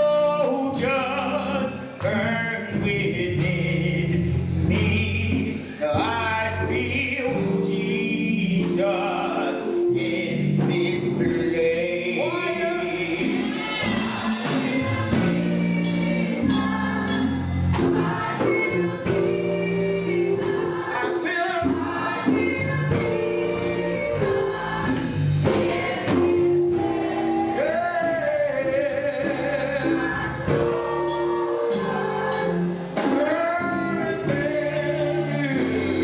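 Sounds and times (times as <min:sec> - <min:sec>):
gospel choir singing: 0:00.0 - 0:36.0
instrumental accompaniment with beat: 0:00.0 - 0:36.0.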